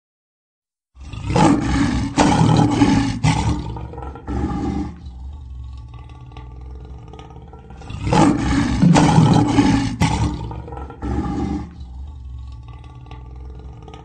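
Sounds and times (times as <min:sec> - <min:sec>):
lion roaring: 0:01.0 - 0:14.0.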